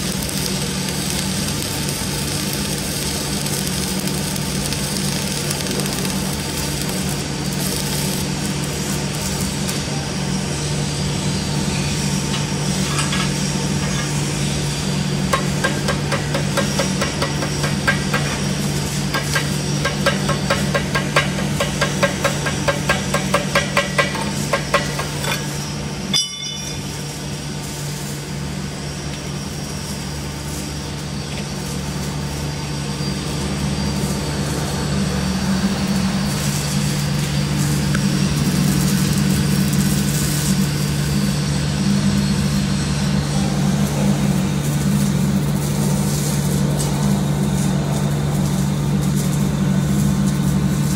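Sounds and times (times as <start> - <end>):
machinery hum: 0.0 - 50.9.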